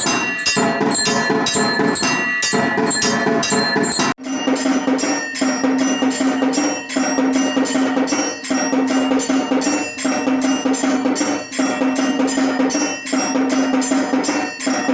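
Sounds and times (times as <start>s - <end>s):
bells ringing: 0.0s - 14.9s
mechanical drum strokes: 0.0s - 14.9s.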